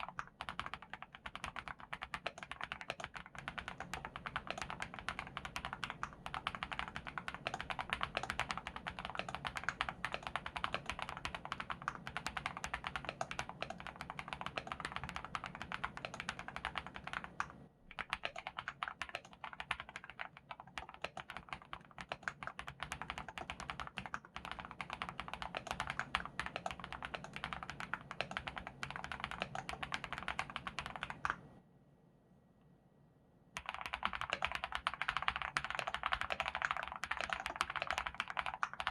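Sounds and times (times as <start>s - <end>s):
mechanical keyboard typing: 0.0s - 31.4s, 33.6s - 38.9s.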